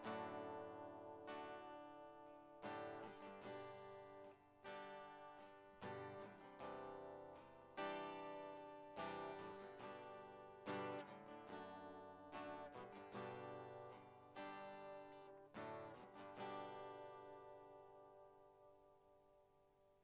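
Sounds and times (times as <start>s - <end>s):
strummed acoustic guitar: 0.0s - 18.8s.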